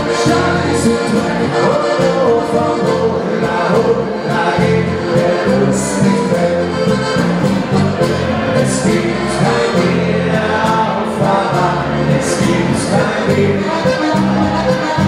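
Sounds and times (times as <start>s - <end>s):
live party band music: 0.0s - 15.0s
steady bass line: 0.0s - 15.0s
voices singing together: 0.0s - 15.0s.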